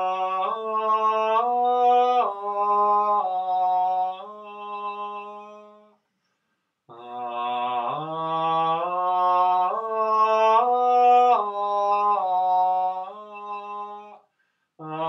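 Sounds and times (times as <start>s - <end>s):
man singing wordless notes: 0.0s - 5.9s, 6.9s - 14.2s, 14.8s - 15.0s.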